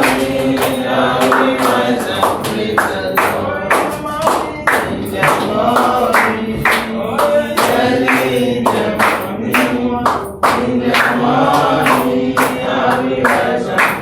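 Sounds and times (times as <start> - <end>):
group singing in chorus: 0.0 - 14.0
hand claps: 0.0 - 14.0.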